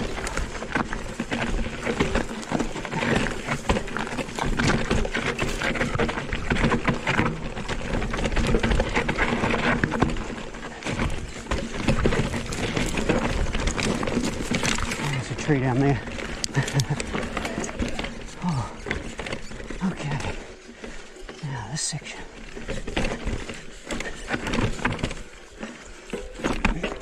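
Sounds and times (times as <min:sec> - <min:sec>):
bike clattering: 0:00.0 - 0:21.4, 0:22.4 - 0:27.0
tyres crunching over dirt: 0:00.0 - 0:27.0.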